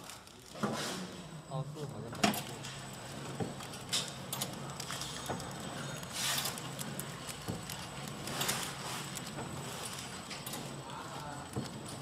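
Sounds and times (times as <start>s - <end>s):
packing machine humming: 0.0s - 12.0s.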